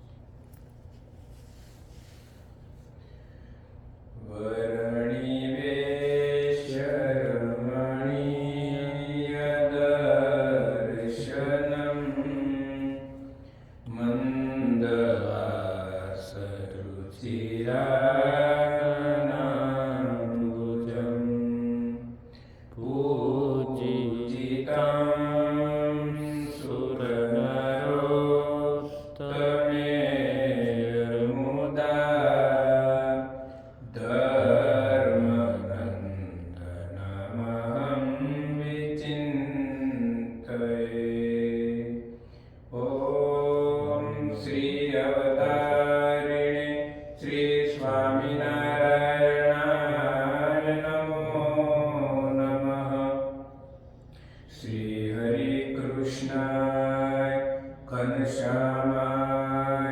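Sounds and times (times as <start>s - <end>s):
person chanting a mantra: 4.2s - 53.8s, 54.4s - 59.9s.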